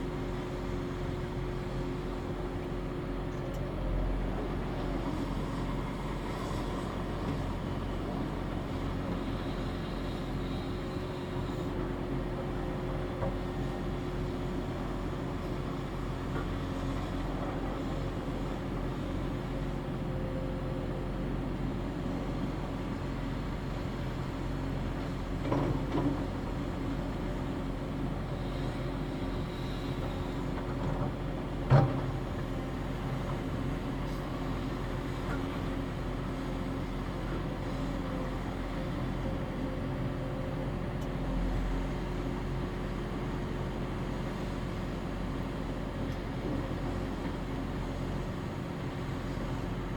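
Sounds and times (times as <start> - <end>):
diesel construction machinery running: 0.0 - 49.9.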